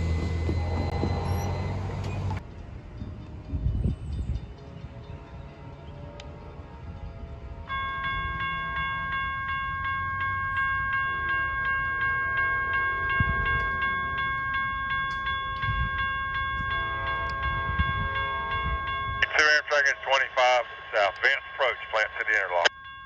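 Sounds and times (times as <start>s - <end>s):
low rumble of train: 0.0s - 23.0s
railroad crossing bell ringing: 0.0s - 23.0s.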